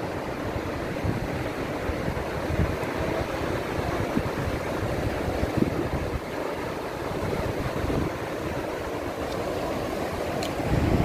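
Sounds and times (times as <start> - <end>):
waterfall rushing: 0.0 - 11.0
wind rumble on microphone: 0.0 - 11.0.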